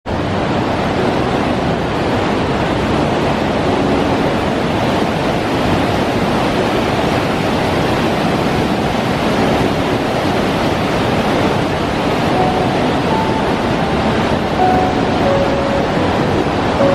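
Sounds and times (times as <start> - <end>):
waterfall roaring: 0.1 - 16.9.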